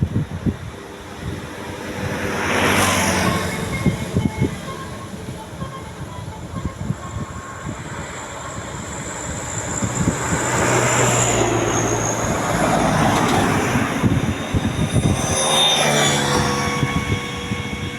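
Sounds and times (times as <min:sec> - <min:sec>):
bus driving past: 0:00.0 - 0:17.9.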